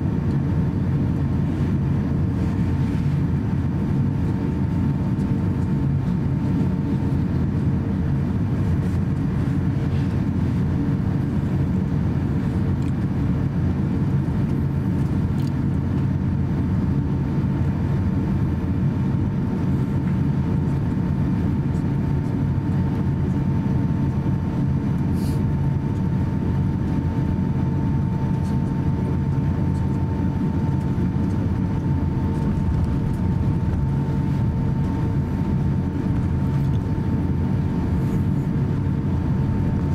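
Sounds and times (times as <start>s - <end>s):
airplane cabin low rumble: 0.0s - 39.9s
jet engine whine: 0.0s - 39.9s.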